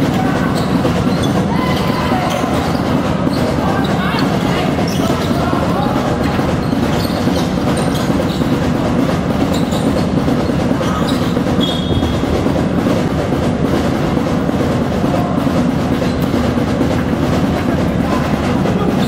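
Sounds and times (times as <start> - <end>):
basketball game hall noise: 0.0 - 19.0.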